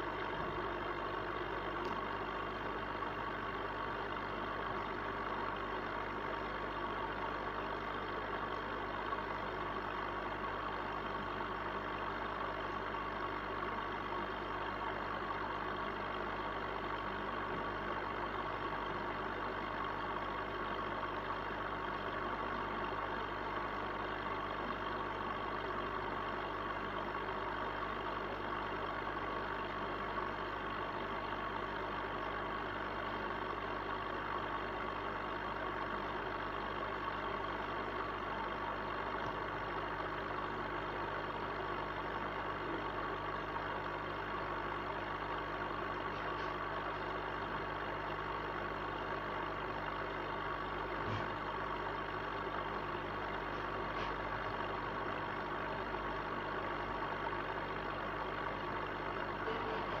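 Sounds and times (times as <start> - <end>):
aquarium equipment humming: 0.0 - 60.0.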